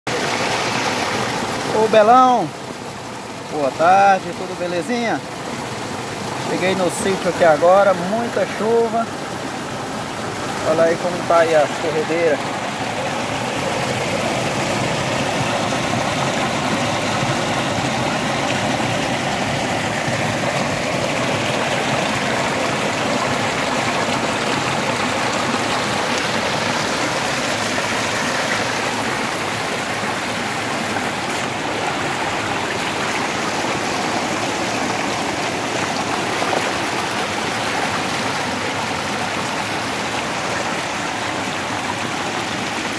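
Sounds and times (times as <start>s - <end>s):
water rushing down spillway: 0.1s - 42.9s.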